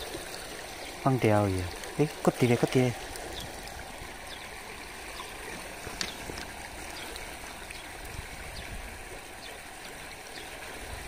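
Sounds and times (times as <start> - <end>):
running water with low rumble: 0.0 - 11.0.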